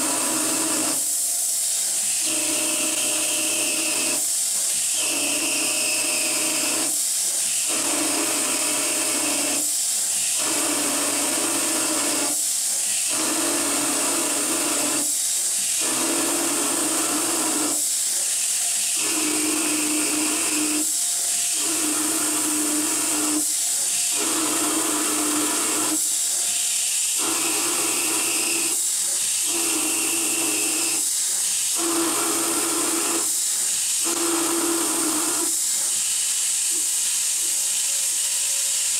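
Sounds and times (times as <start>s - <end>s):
coolant nozzle hissing: 0.0s - 37.6s
metal cutting: 0.0s - 38.9s
mill spindle running: 0.0s - 38.9s.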